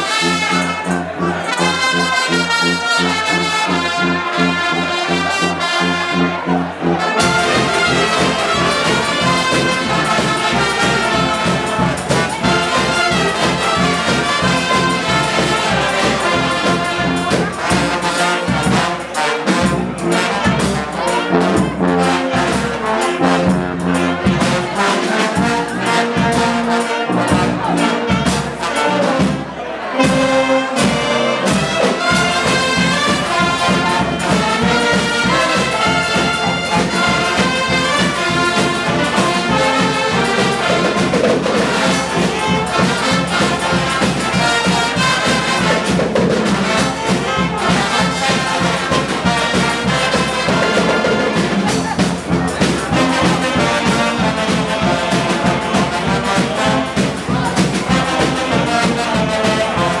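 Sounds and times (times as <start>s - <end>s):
brass band playing: 0.0s - 60.0s
steady drum beat: 0.0s - 60.0s.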